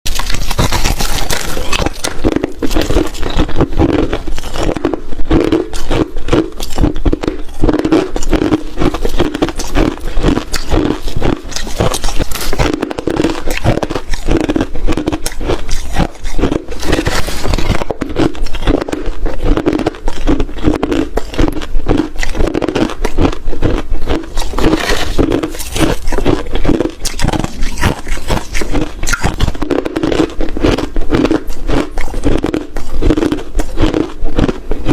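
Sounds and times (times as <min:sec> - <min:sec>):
ice being chewed and crunched: 0:00.1 - 0:34.9.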